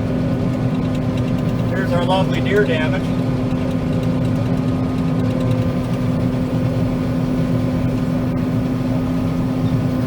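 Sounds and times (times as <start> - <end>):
combine harvester mechanical drone: 0.0 - 10.0.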